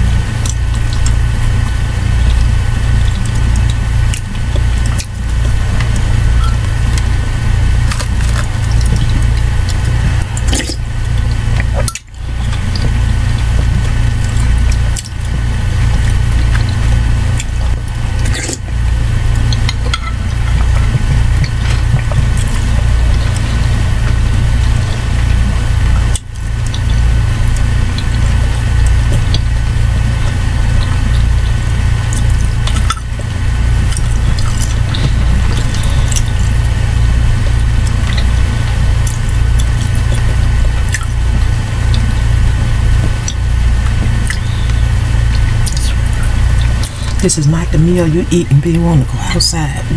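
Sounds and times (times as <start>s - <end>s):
close eating mouth noises: 0.0s - 49.9s
loud low hum: 0.0s - 49.9s.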